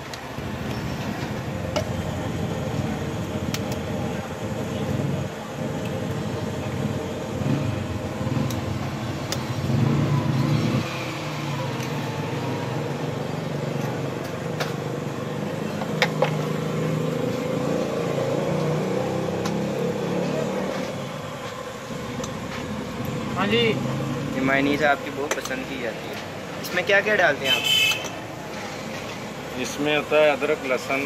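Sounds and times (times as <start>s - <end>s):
traffic hum: 0.0s - 31.0s.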